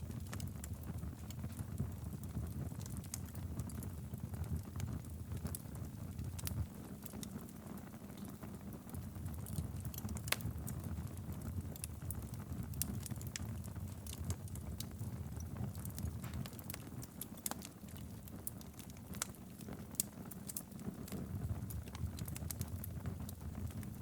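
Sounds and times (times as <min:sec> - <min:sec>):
fire flames rumbling: 0:00.0 - 0:24.0
wood fire crackling and popping: 0:00.0 - 0:24.0.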